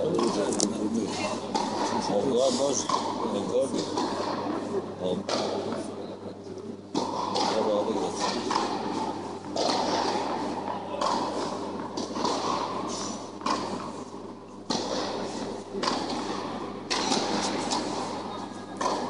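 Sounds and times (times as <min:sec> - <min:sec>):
tennis balls struck by rackets: 0:00.0 - 0:06.0, 0:06.6 - 0:19.0.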